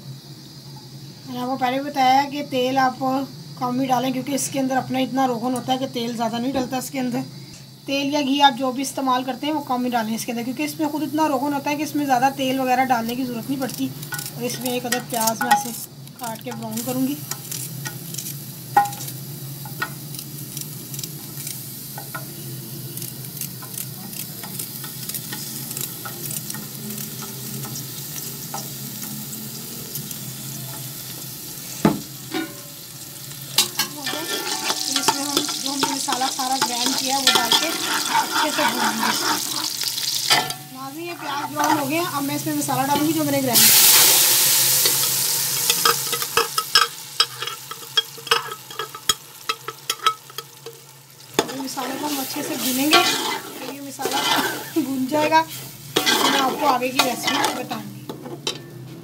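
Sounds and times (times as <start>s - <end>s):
onion sizzling in hot oil: 0.0s - 58.9s.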